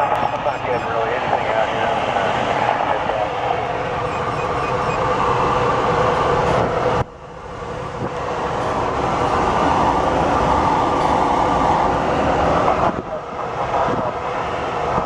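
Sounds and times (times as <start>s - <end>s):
rush of airflow around glider: 0.0s - 15.0s.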